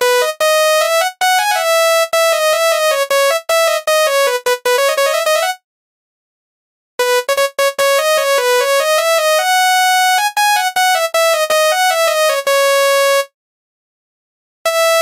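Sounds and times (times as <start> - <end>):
electronic bus horn melody: 0.0 - 5.6, 7.0 - 13.3, 14.7 - 15.0.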